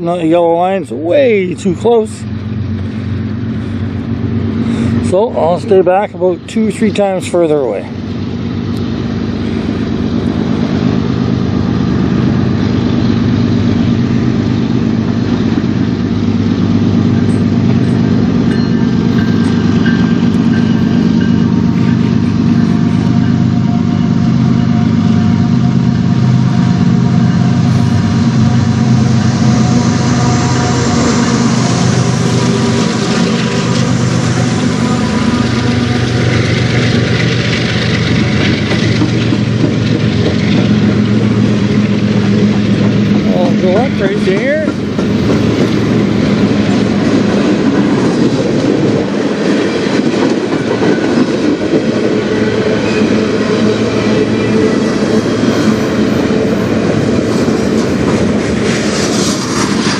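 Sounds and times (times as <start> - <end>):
diesel locomotive engines drumming: 0.0 - 59.9
train wheels clattering on rails: 0.0 - 59.9.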